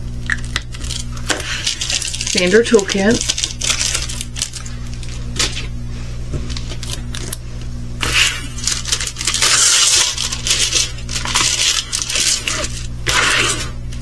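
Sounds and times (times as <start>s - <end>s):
packaging rustling and crackling: 0.2s - 14.0s.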